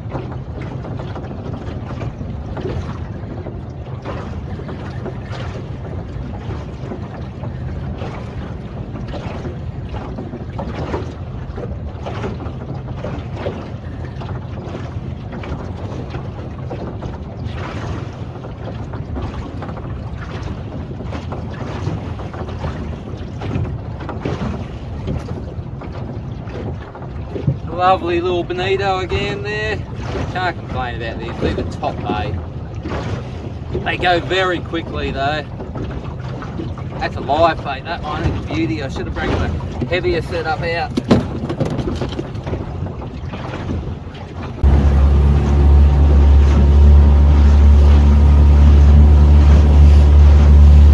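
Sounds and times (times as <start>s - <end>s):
outboard motor running: 0.0s - 50.9s
wind buffeting microphone: 0.0s - 50.9s.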